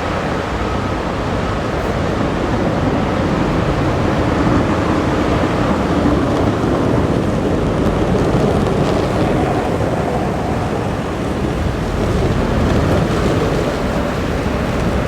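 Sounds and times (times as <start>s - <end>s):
plow blade pushing snow: 0.0s - 15.0s
truck engine running: 0.0s - 15.0s.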